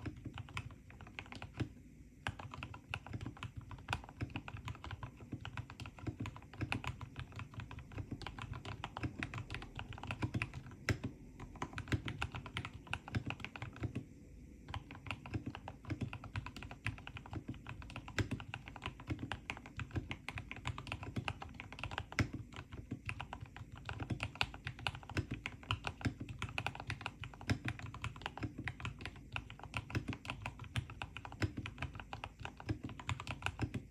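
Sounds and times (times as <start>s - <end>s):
fast typing on mechanical keyboard: 0.0s - 14.0s, 14.7s - 33.9s.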